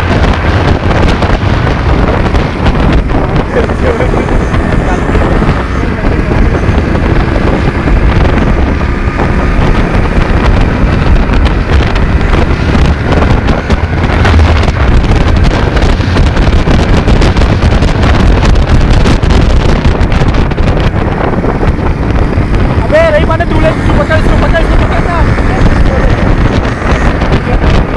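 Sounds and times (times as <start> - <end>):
motorcycle engine running: 0.0 - 27.9
wind buffeting microphone: 0.0 - 27.9.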